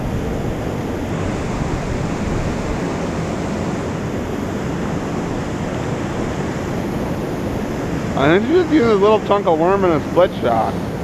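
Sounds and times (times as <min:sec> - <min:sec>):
river water rushing over spillway: 0:00.0 - 0:11.0.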